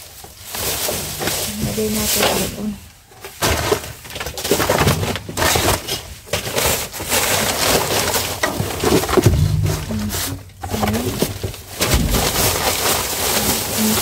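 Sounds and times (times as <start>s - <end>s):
plastic garbage bags rustling: 0.0s - 14.0s.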